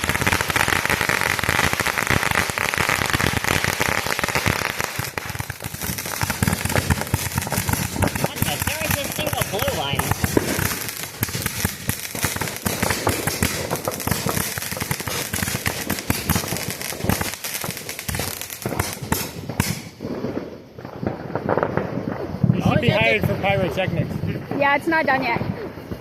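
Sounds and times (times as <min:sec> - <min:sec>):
firework crackling and popping: 0:00.0 - 0:26.0.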